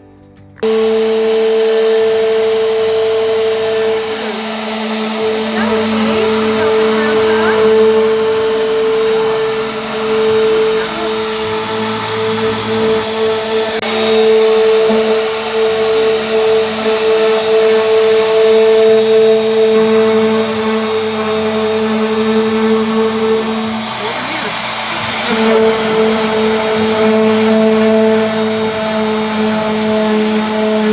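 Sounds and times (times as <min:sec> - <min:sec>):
power tool motor whine: 0:00.6 - 0:30.9.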